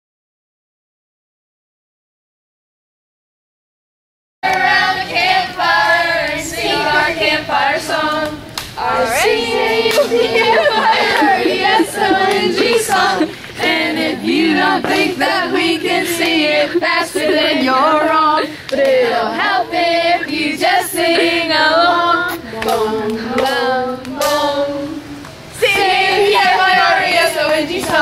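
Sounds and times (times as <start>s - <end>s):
group of people singing: 4.4s - 28.0s.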